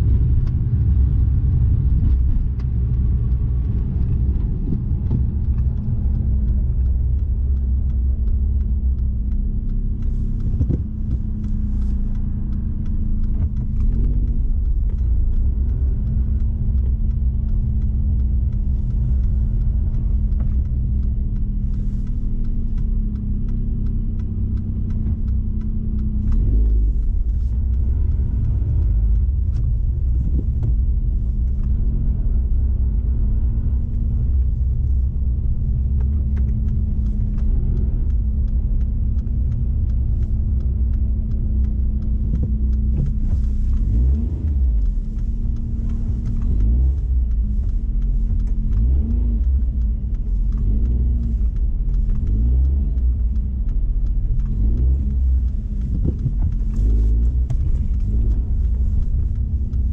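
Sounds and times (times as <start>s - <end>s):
car engine low rumble: 0.0s - 59.9s.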